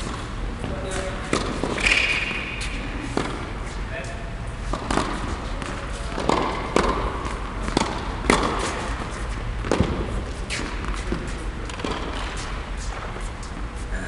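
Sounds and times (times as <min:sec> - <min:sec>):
tennis ball struck by rackets: 0:00.0 - 0:03.5, 0:04.6 - 0:13.2.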